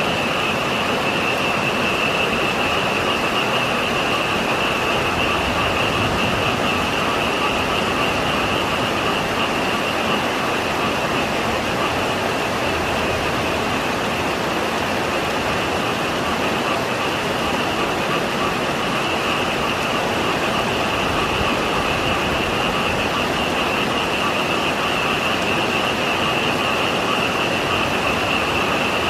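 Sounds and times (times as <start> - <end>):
frogs trilling: 0.0 - 29.0
heavy rain pouring: 0.0 - 29.0.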